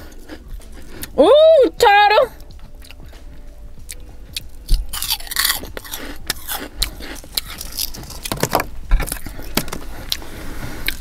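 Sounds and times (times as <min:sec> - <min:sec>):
chewing crunchy chips: 0:00.0 - 0:01.2, 0:02.4 - 0:11.0.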